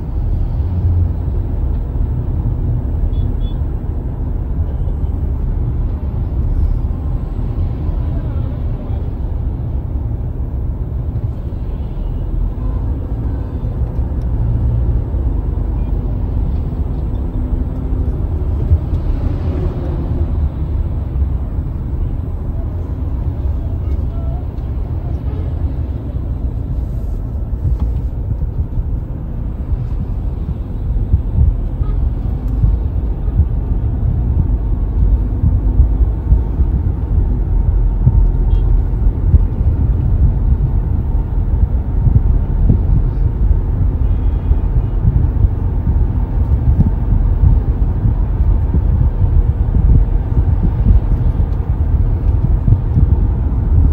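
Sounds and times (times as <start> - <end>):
car engine and tyres rumbling: 0.0 - 53.9.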